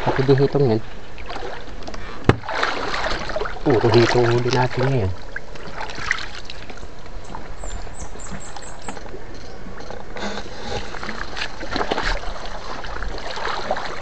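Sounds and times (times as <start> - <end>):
shallow water sloshing and splashing: 0.0 - 14.0.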